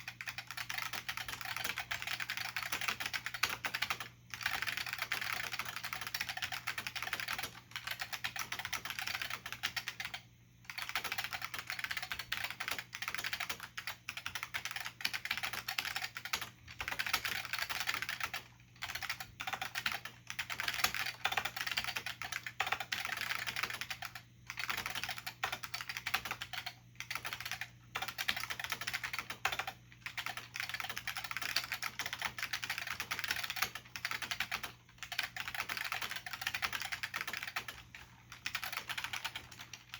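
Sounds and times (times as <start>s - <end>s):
keyboard typing clatter: 0.0s - 39.9s.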